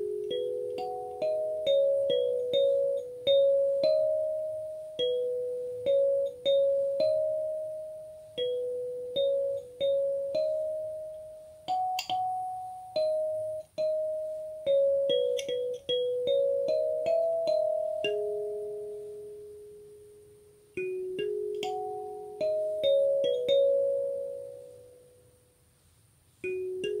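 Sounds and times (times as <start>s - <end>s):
kalimba melody: 0.0s - 25.2s, 26.4s - 27.0s.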